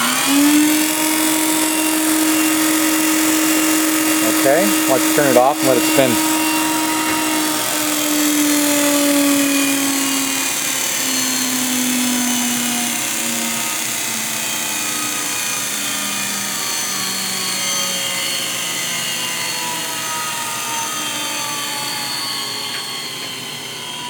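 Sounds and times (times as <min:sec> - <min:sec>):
grinder whine spinning down: 0:00.0 - 0:24.0.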